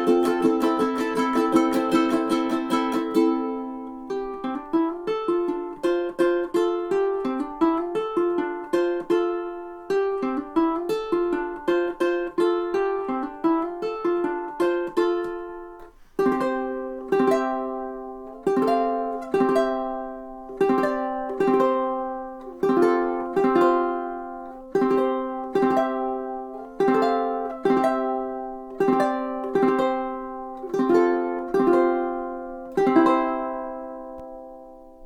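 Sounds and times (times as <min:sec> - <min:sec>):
ukulele strumming chords: 0:00.0 - 0:35.0.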